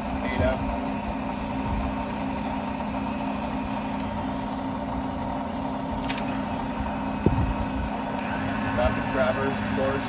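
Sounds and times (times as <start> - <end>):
milling machine motor hum: 0.0 - 10.0.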